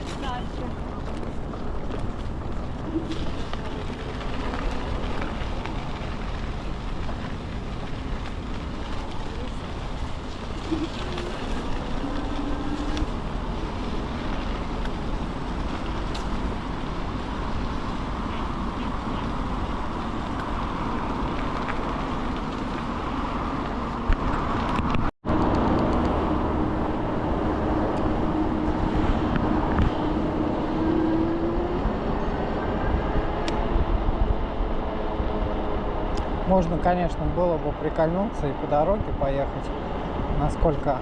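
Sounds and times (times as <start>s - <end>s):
tyre and road rumble: 0.0s - 41.0s
wind rushing on microphone: 0.0s - 41.0s.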